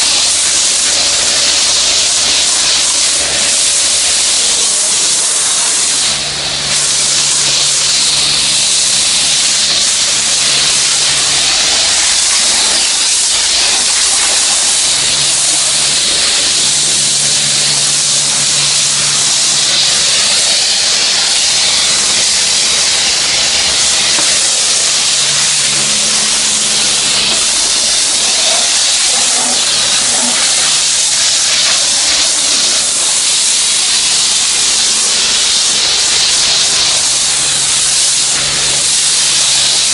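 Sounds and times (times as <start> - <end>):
pressure washer spray hiss: 0.0 - 39.9.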